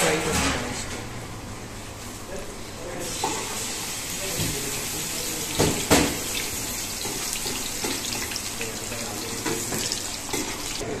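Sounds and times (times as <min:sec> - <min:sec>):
deep frying sizzle with crackles: 0:01.8 - 0:11.0.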